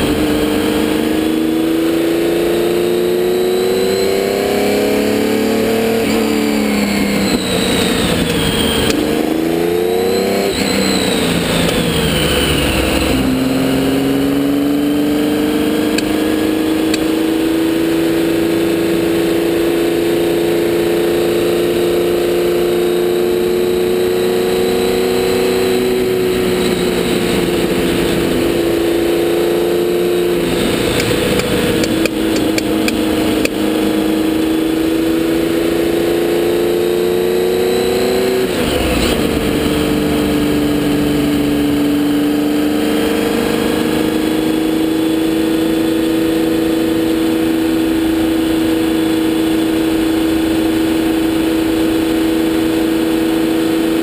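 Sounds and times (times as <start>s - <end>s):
racing engine at speed: 0.0s - 54.0s.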